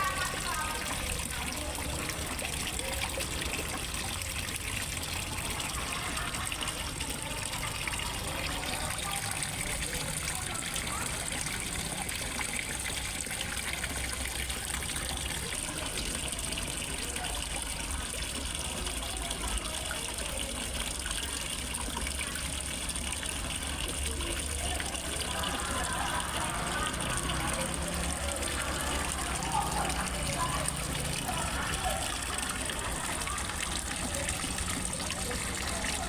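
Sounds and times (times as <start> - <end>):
water falling into a pond: 0.0 - 36.0.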